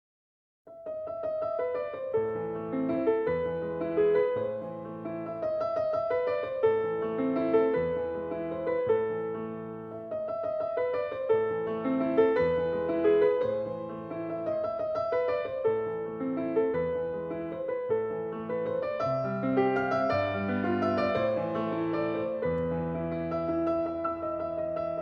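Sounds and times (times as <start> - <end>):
piano music: 0.7 - 25.0.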